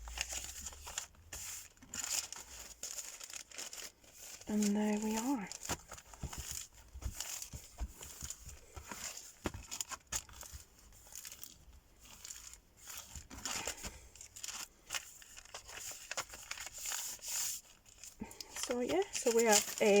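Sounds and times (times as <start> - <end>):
paper rustling and crinkling: 0.0 - 20.0.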